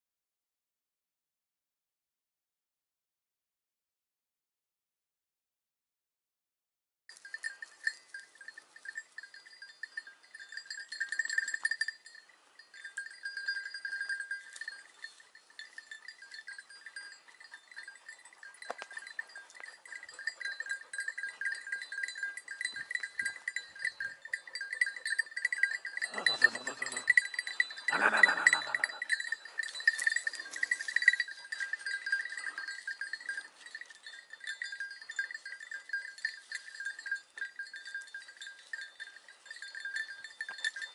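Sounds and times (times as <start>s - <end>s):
small metal bell jingling: 7.1s - 40.9s.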